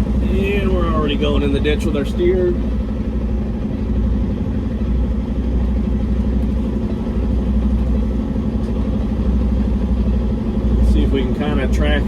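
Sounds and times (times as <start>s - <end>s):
truck diesel engine low hum: 0.0s - 12.0s.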